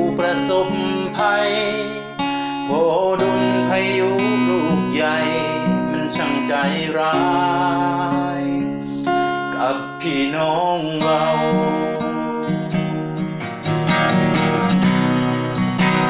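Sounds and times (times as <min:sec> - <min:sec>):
man singing: 0:00.0 - 0:13.5
acoustic guitar strumming: 0:00.0 - 0:16.0.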